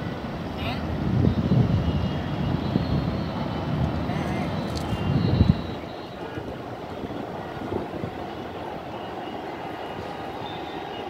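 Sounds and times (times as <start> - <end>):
distant city traffic hum: 0.0 - 11.0.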